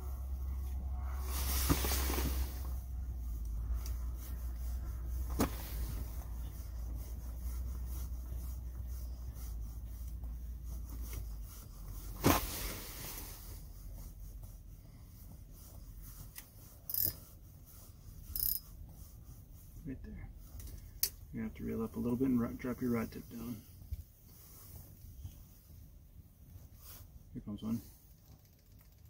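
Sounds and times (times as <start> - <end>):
low steady hum: 0.0 - 28.3
clothing and gear rustling: 0.1 - 27.3.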